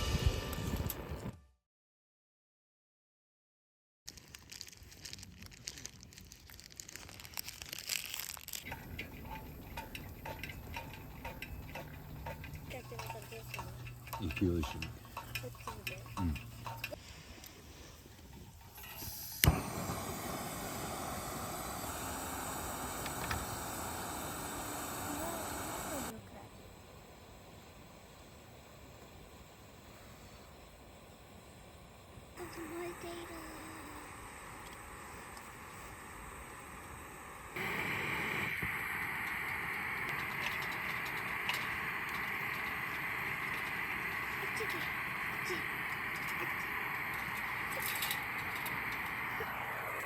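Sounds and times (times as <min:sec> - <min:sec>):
steady rushing hiss: 0:04.8 - 0:50.0.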